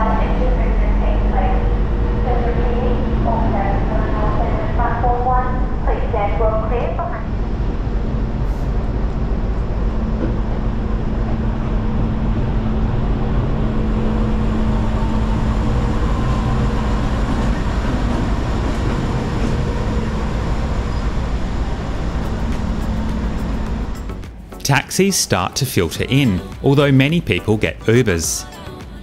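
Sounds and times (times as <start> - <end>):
diesel locomotive humming: 0.0 - 28.6.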